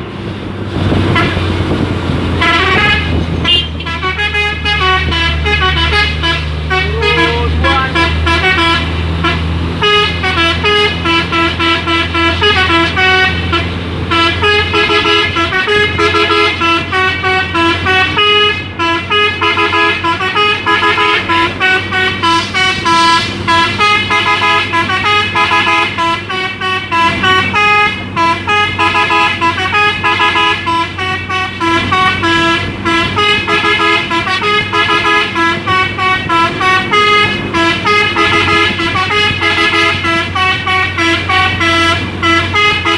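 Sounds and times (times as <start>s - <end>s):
diesel truck engine: 0.0s - 42.9s
multi-tone air horn tune: 1.1s - 1.4s, 2.4s - 42.9s.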